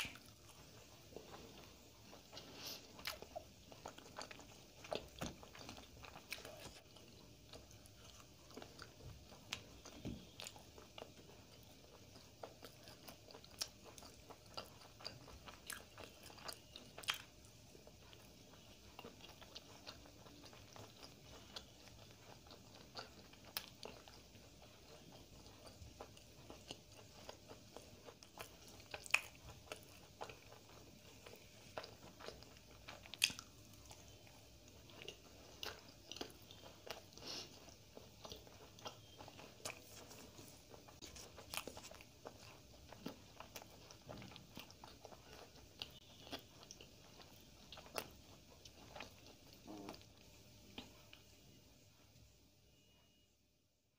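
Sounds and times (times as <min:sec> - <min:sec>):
person chewing wetly: 0:00.0 - 0:51.3.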